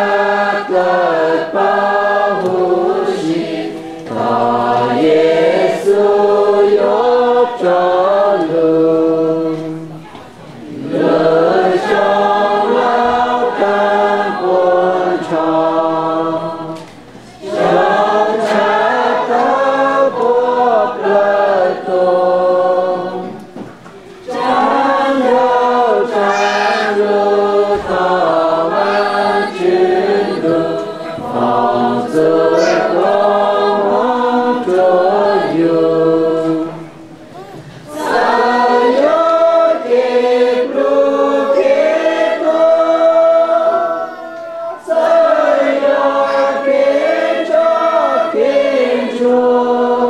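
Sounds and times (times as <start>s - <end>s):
group singing a hymn: 0.0s - 50.0s.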